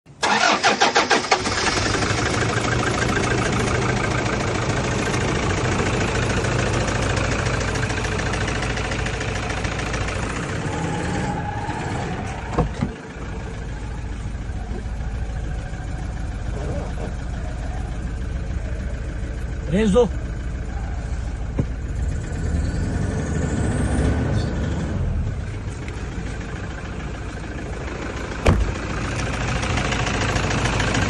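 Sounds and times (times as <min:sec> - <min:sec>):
diesel engine cranking and idling: 0:00.1 - 0:31.0
engine rattle: 0:00.1 - 0:31.0.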